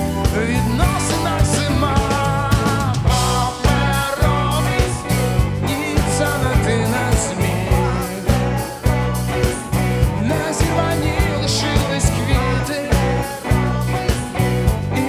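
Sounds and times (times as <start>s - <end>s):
bass: 0.0s - 15.0s
rock band playing: 0.0s - 15.0s
steady drumbeat: 0.0s - 15.0s.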